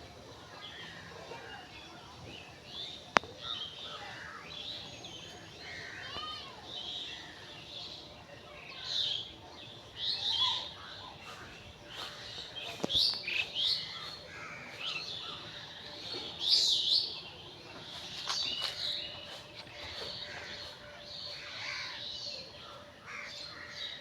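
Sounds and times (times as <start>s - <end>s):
birds chirping and warbling: 0.0s - 24.0s.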